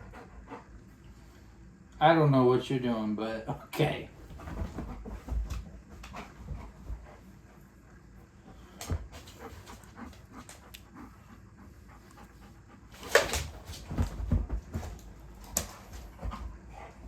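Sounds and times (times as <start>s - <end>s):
dog panting: 0.0s - 1.6s, 4.2s - 17.0s.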